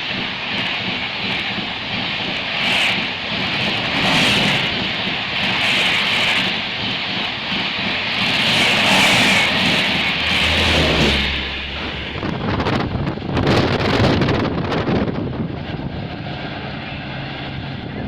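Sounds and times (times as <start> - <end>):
train passing at high speed: 0.0 - 18.0.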